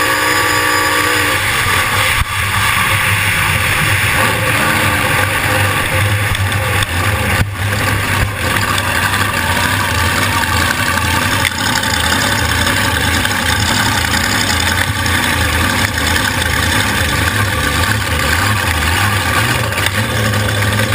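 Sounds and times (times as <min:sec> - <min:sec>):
boat engine running at low speed: 0:00.0 - 0:20.9.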